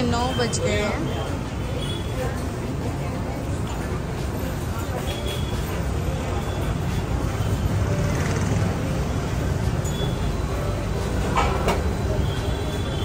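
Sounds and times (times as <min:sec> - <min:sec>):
restaurant low rumble: 0:00.0 - 0:13.0.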